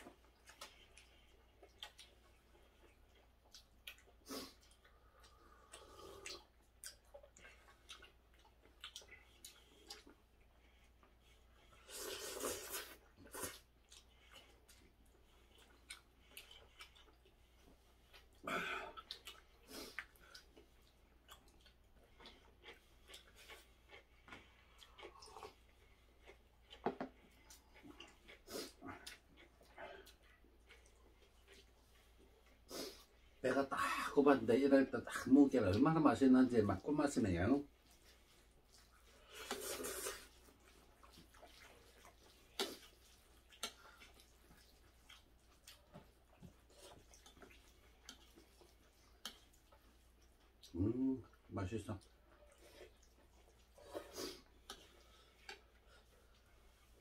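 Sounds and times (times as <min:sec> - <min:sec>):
faint chewing: 0:00.0 - 0:57.0.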